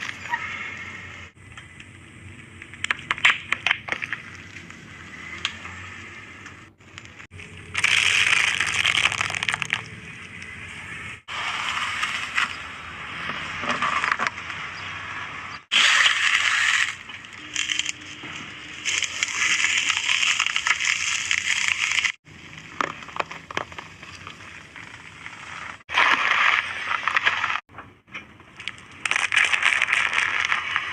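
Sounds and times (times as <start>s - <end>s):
objects crunching under car tyre: 2.6s - 27.7s, 28.4s - 30.9s.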